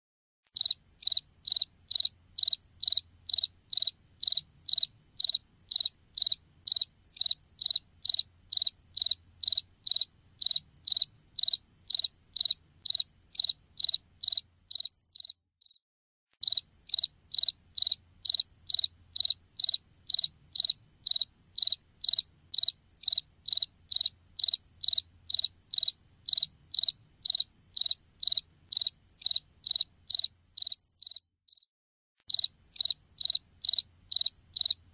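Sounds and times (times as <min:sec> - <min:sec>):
cricket chirping: 0:00.6 - 0:15.8, 0:16.4 - 0:31.7, 0:32.3 - 0:34.9.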